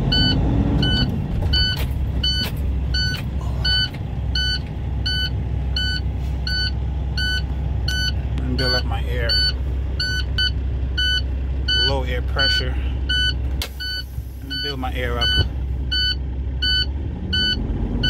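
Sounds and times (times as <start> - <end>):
diesel engine drone: 0.0 - 18.0
truck backup alarm beeping: 0.0 - 18.0.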